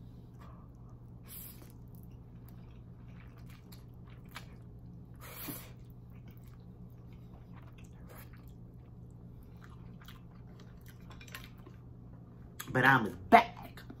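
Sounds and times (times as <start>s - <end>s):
steady low hum: 0.0s - 14.0s
person chewing food: 0.1s - 12.7s.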